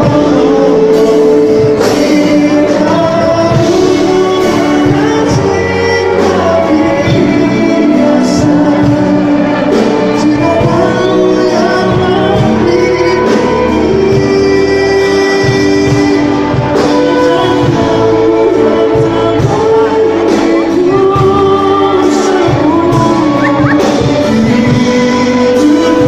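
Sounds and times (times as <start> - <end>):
man singing pop ballad: 0.0 - 26.0
string orchestra: 0.0 - 26.0.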